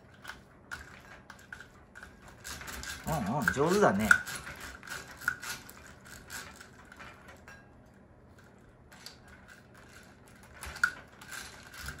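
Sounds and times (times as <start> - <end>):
plastic gears and chain rattling: 0.1 - 7.4, 8.5 - 12.0.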